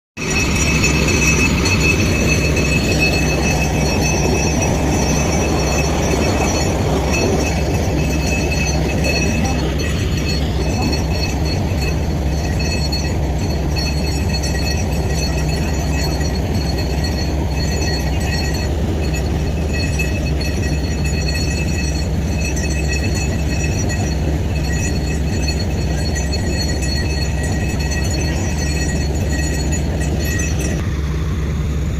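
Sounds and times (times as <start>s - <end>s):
drilling rig running: 0.2s - 31.9s.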